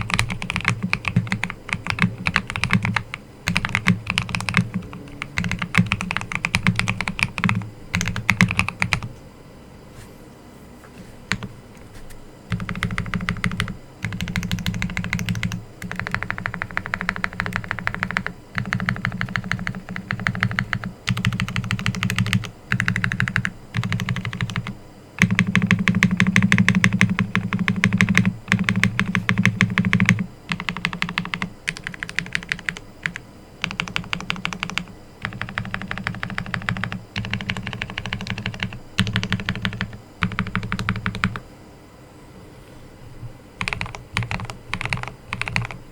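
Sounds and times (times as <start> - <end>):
fast typing on mechanical keyboard: 0.0 - 9.1, 11.3 - 11.5, 12.5 - 41.4, 43.6 - 45.9.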